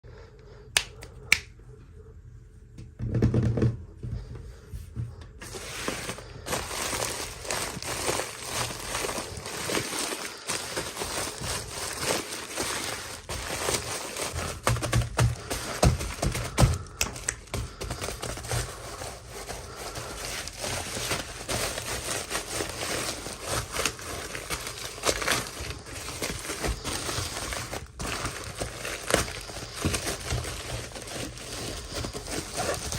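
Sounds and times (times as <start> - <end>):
packaging rustling and crinkling: 5.4 - 32.9.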